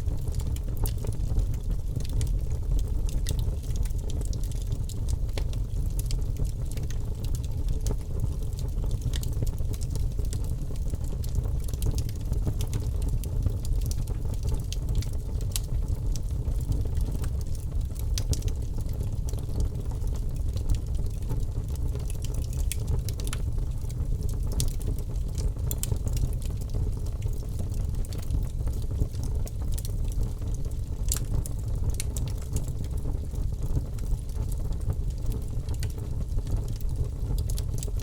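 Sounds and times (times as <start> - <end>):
crackles and pops of fire: 0.0 - 38.0
fire burning in a fireplace: 0.0 - 38.0.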